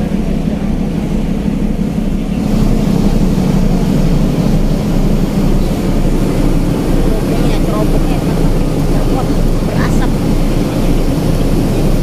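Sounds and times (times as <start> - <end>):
ship low rumble: 0.0 - 12.0.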